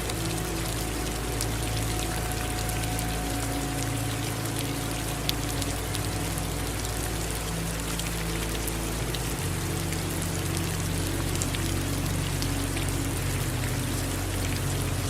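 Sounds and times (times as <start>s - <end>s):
rain drops ticking: 0.0s - 15.0s
running water rushing: 0.0s - 15.0s.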